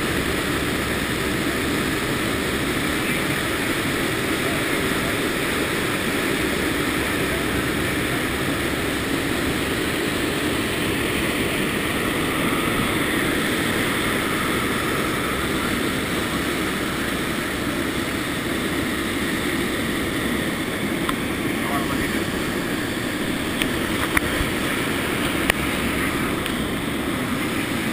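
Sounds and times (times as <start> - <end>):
turboprop engines running: 0.0 - 27.9.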